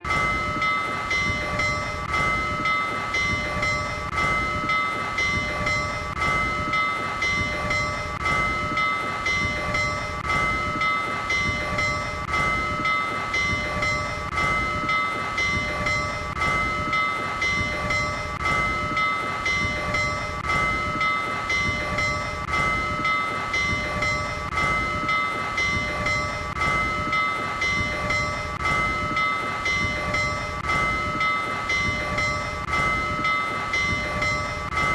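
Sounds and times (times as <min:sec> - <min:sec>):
locomotive bell ringing: 0:00.0 - 0:34.9.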